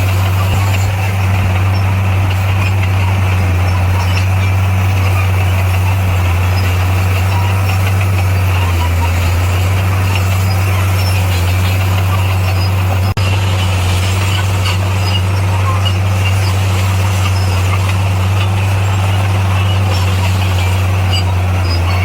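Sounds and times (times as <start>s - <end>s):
diesel engine deep hum: 0.0s - 22.0s.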